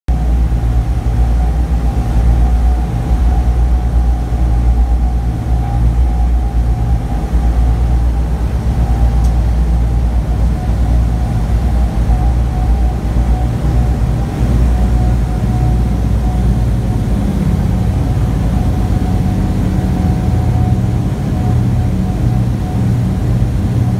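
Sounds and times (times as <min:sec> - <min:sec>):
propeller engines droning: 0:00.1 - 0:23.9.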